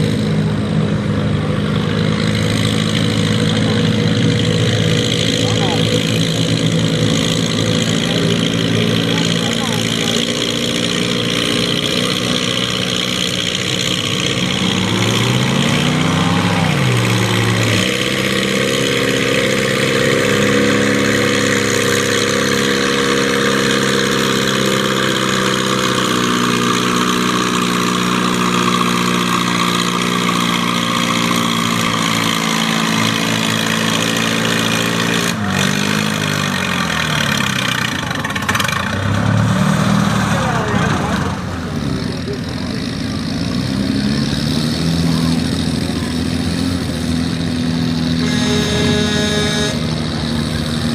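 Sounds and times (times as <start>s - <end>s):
tractor engine revving: 0.0s - 50.9s.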